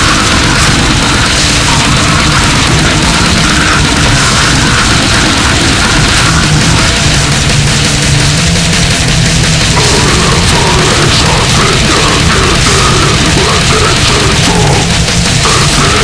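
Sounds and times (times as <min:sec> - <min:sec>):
death metal song: 0:00.0 - 0:16.0.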